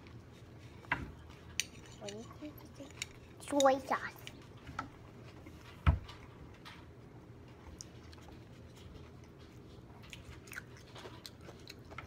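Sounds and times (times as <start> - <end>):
faint clicks and taps of eating: 0.0 - 12.0
low room hum: 0.0 - 12.0.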